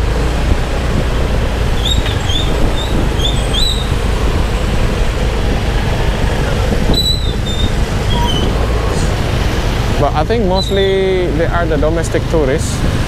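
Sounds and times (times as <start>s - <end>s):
wind on microphone: 0.0s - 11.6s
motorbike engine rumble: 0.0s - 13.0s.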